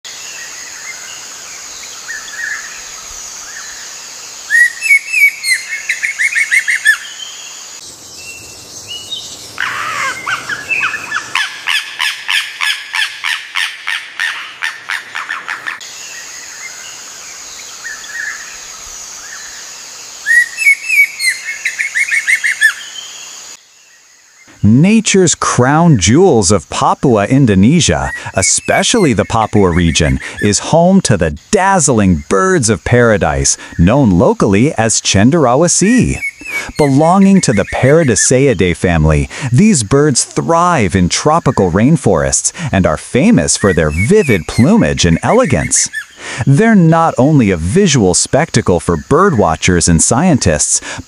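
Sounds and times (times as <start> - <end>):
birds chirping: 0.0 - 51.0
steady high-pitched hiss: 0.1 - 51.0.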